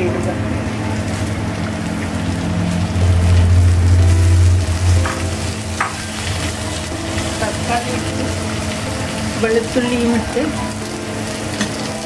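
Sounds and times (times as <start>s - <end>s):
low hum: 0.0s - 9.8s
vegetables sizzling in oil: 0.0s - 12.0s.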